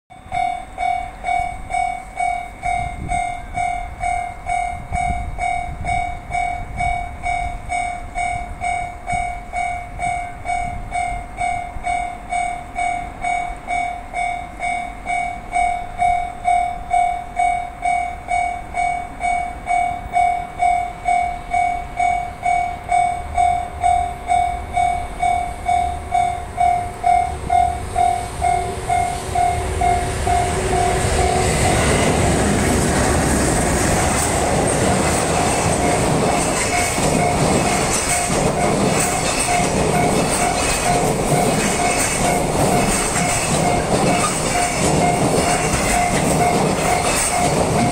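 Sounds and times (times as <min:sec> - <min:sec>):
level-crossing alarm bell ringing: 0:00.1 - 0:32.5, 0:33.8 - 0:47.9
freight train rumble and wheel noise: 0:00.2 - 0:47.9.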